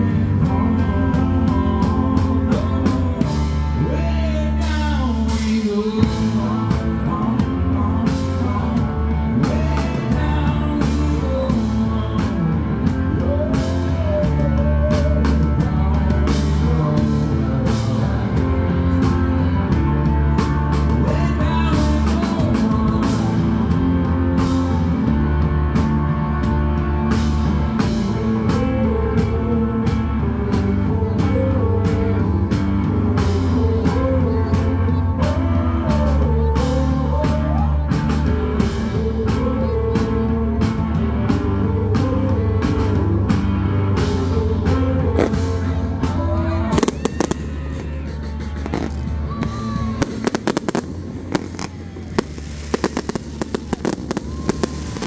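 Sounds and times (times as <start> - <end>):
rock music with singing: 0.0 - 55.0.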